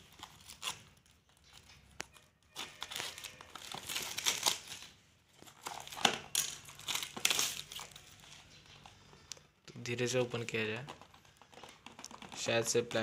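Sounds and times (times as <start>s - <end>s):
plastic shrink wrap crinkling: 0.0s - 8.9s, 10.1s - 13.0s.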